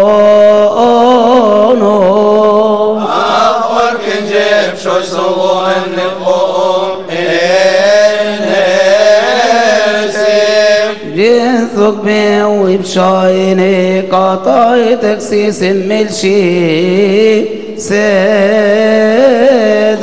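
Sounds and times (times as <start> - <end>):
men chanting a hymn: 0.0 - 20.0.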